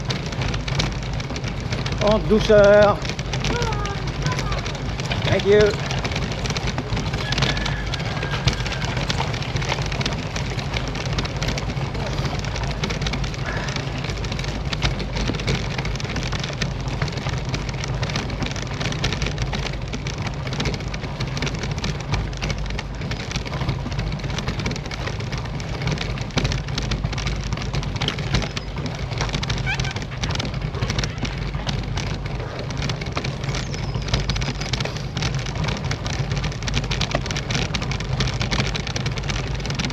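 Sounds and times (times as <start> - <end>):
bike rattling over cobblestones: 0.0 - 39.9.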